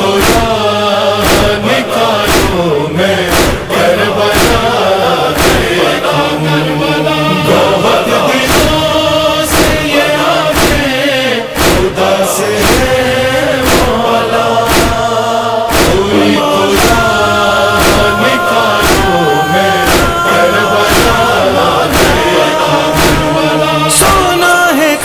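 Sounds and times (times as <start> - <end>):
male chorus chanting: 0.0 - 25.0
steady beat: 0.1 - 24.4.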